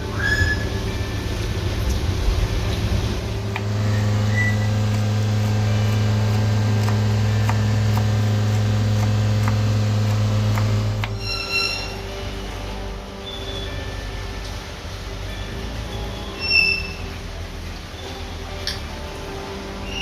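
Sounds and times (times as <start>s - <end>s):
low mechanical hum: 0.0s - 20.0s
rumbling: 0.0s - 20.0s.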